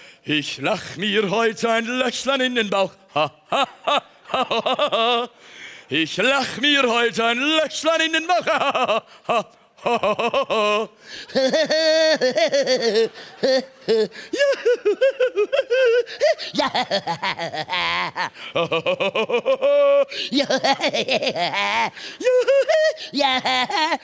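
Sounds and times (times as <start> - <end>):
man laugh-singing: 3.1 - 24.0.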